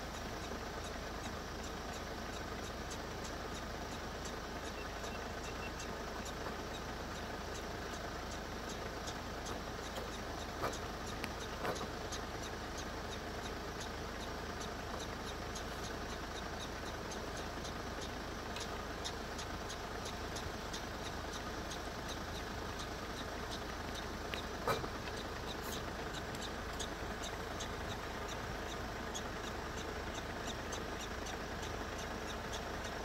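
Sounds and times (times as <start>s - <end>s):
faint regular ticking: 0.0s - 33.0s
vehicle engine idling: 0.0s - 33.0s.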